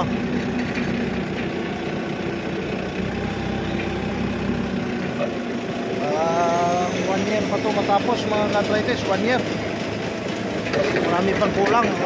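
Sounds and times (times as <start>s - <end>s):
machinery droning: 0.0s - 12.0s.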